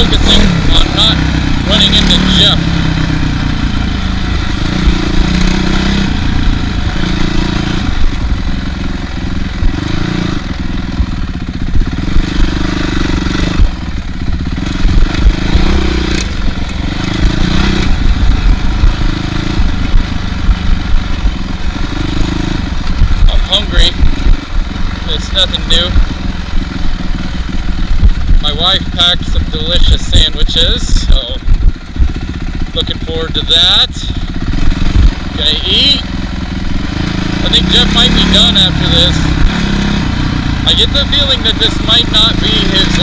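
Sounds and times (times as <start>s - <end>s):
motorcycle engine at low speed: 0.0s - 43.0s.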